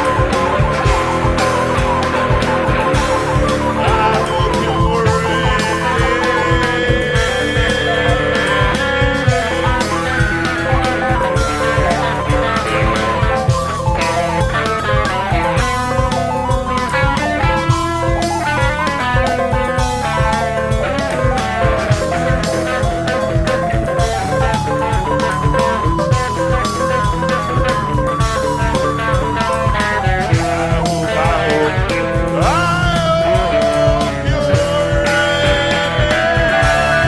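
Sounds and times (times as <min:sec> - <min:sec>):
electric guitar blues-rock playing: 0:00.0 - 0:37.0
steady beat: 0:00.0 - 0:37.0.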